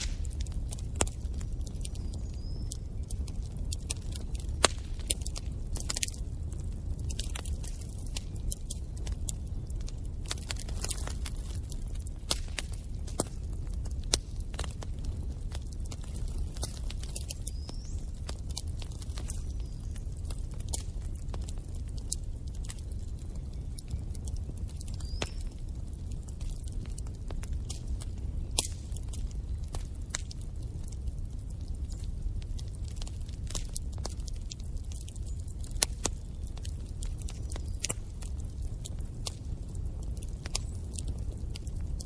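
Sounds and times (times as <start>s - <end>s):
low rumble of flames: 0.0s - 42.0s
wood fire crackling: 0.0s - 42.0s.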